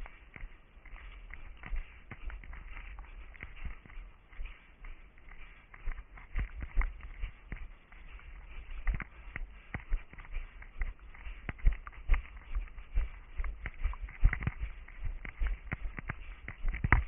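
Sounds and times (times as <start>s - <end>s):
running footsteps on forest ground: 0.0s - 17.0s.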